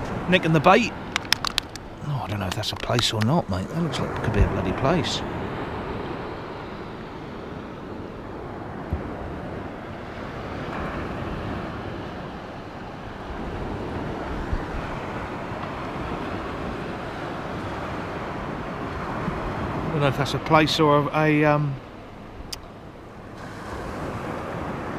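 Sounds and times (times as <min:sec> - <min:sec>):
wind over microphone: 0:00.0 - 0:20.5
sea surf: 0:00.0 - 0:24.9.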